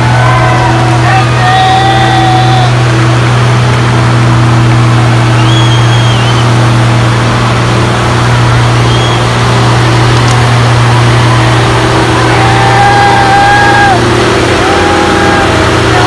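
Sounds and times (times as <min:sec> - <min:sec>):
truck engine working hard: 0:00.0 - 0:16.0.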